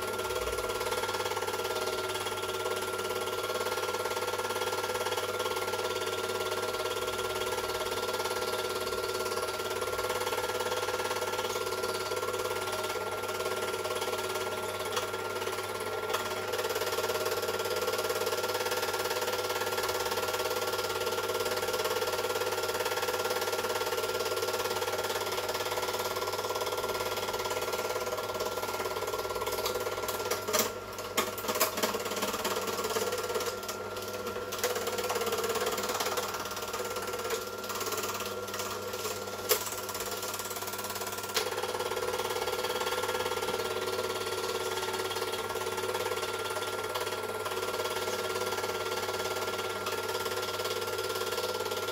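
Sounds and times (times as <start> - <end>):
film projector whirring and clattering: 0.0 - 51.9.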